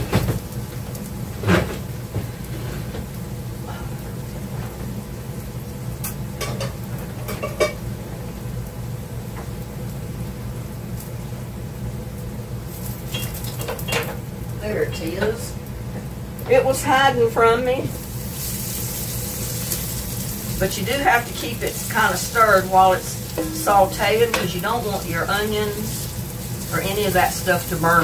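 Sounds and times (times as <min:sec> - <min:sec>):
vegetables sizzling in a frying pan: 0:00.0 - 0:28.0.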